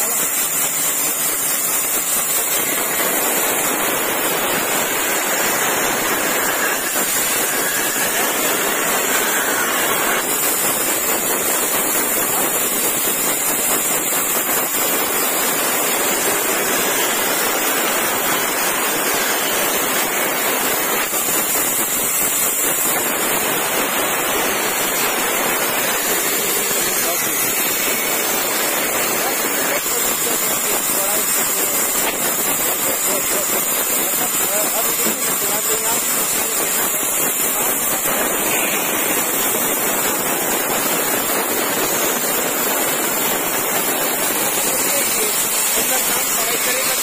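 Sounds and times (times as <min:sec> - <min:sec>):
band saw cutting timber: 0:00.0 - 0:42.6, 0:43.2 - 0:47.0.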